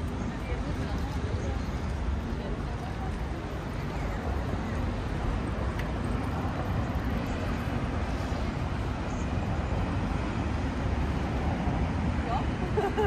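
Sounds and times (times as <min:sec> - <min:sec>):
city street low rumble: 0:00.0 - 0:13.0.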